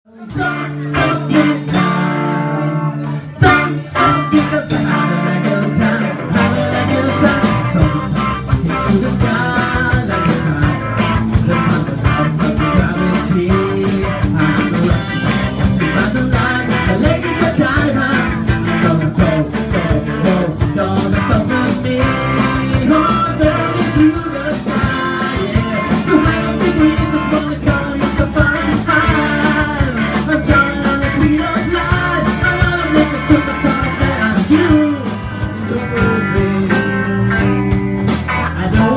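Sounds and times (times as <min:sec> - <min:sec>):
bass guitar: 0:00.0 - 0:38.9
drums: 0:00.1 - 0:38.9
electric guitar: 0:00.1 - 0:38.9
person singing: 0:00.1 - 0:38.9.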